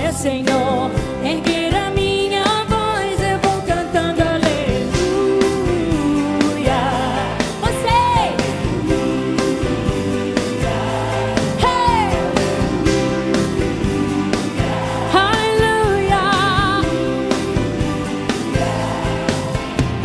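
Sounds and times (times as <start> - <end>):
woman singing: 0.0 - 10.4, 11.5 - 17.9
band with steady drum beat: 0.0 - 20.0.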